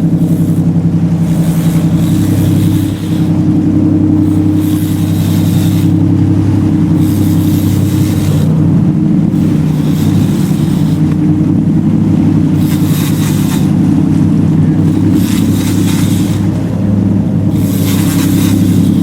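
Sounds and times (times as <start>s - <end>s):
boat engine running: 0.0s - 19.0s
rushing hiss: 0.0s - 19.0s.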